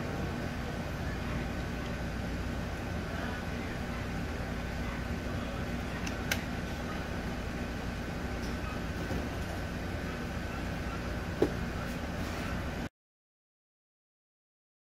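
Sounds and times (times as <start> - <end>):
background rumble and hiss: 0.0 - 12.9
faint steady whine: 0.0 - 12.9.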